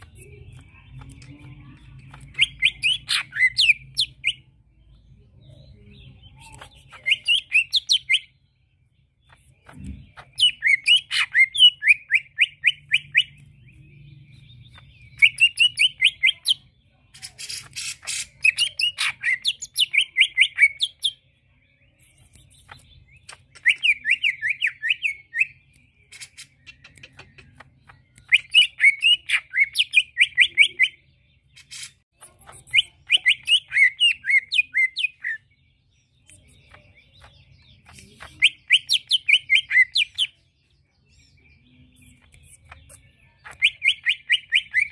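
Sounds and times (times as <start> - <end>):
bird chirping rapidly: 0.0 - 4.5, 6.2 - 8.4, 9.2 - 21.2, 22.0 - 40.4, 41.6 - 44.9.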